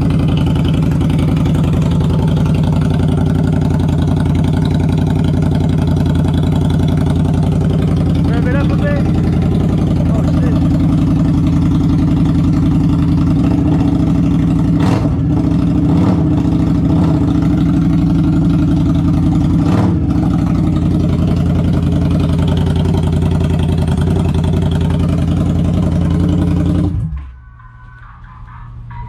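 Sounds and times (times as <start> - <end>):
motorcycle engine running: 0.0 - 27.4.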